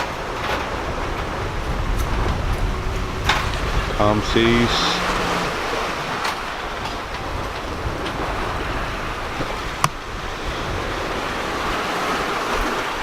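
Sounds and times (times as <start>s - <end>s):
sea water rushing past boat: 0.0s - 13.0s
wind buffeting microphone: 0.0s - 13.0s.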